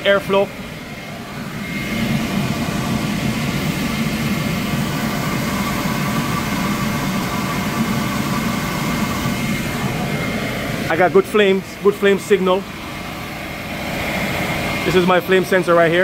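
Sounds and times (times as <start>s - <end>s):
burner flame and blower roar: 0.0s - 16.0s
thin high whine: 0.0s - 16.0s.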